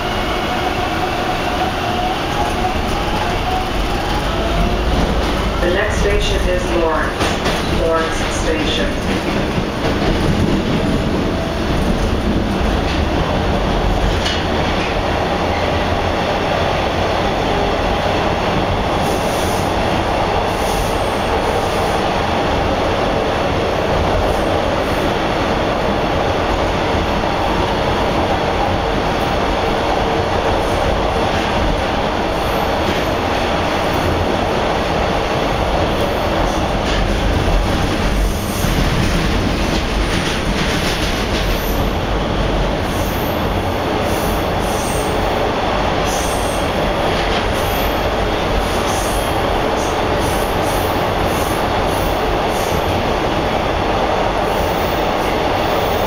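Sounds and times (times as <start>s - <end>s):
subway wheels rumbling on rail: 0.0s - 56.0s.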